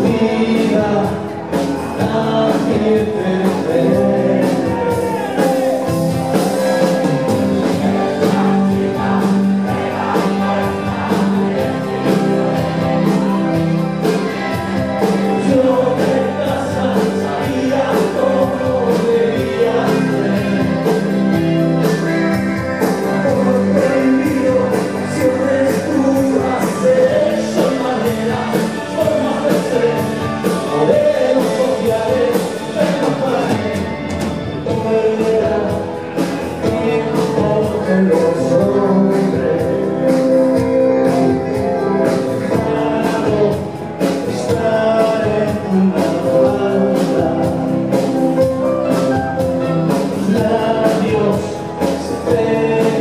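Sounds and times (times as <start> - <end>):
live rock band playing: 0.0 - 53.0
man singing: 0.0 - 53.0.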